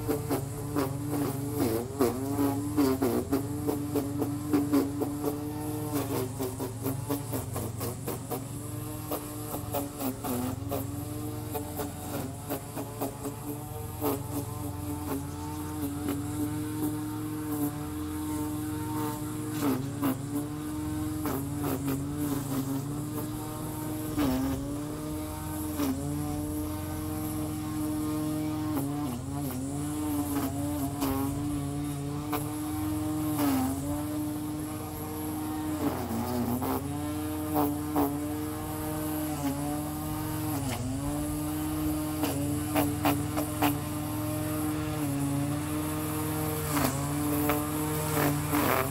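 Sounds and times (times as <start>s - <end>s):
electric grass trimmer whining: 0.0s - 48.9s.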